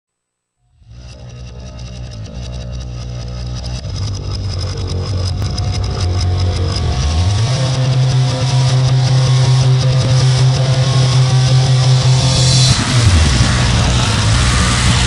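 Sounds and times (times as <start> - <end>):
distorted guitar rock music: 0.8 - 15.0.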